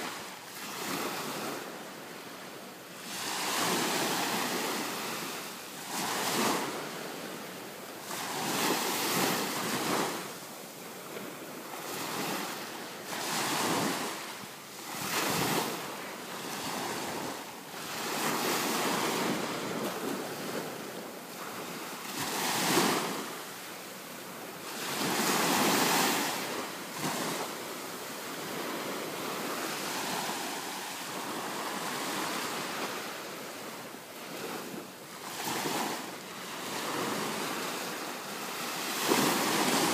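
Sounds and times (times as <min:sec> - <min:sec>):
small waves washing ashore: 0:00.0 - 0:39.9.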